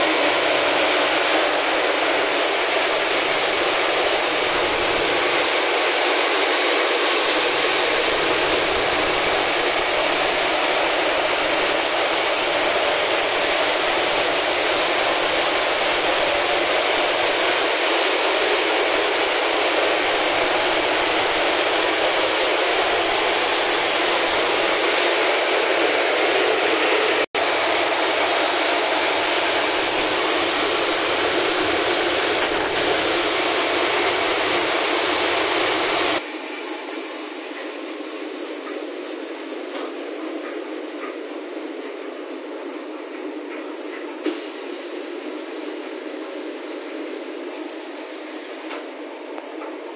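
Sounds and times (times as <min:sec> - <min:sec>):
machinery hissing: 0:00.0 - 0:49.9.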